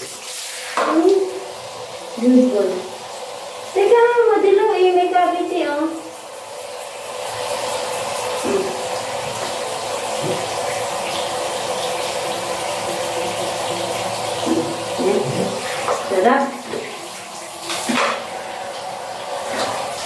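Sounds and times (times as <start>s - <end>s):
shower water on tiled floor: 0.0s - 20.0s.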